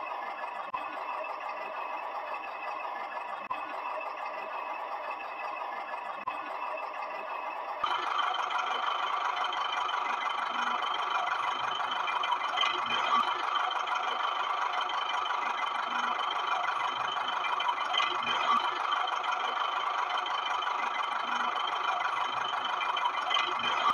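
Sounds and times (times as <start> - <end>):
toy motor and gears whirring: 0.0 - 23.9.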